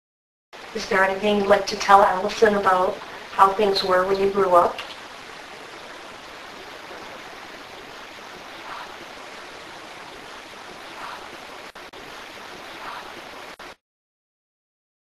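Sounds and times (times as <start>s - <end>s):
recording hiss: 0.6s - 13.8s.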